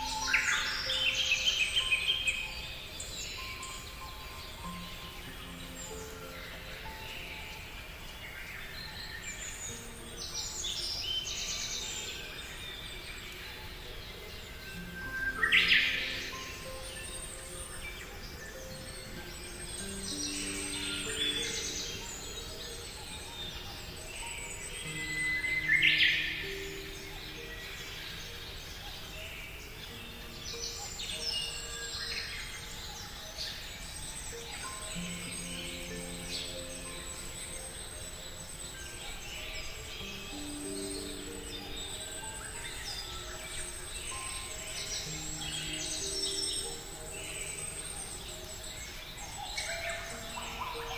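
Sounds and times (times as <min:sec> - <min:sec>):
background music: 0:00.0 - 0:50.9
small birds chirping and trilling: 0:00.0 - 0:50.9.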